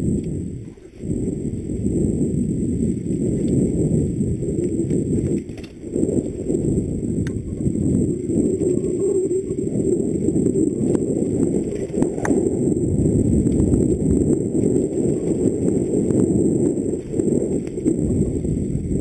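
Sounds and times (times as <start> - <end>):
bike rumbling over dirt trail: 0.0 - 19.0.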